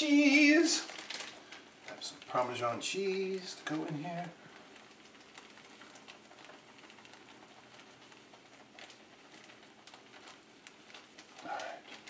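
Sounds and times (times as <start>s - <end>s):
faint pattering in skillet: 0.0s - 12.0s.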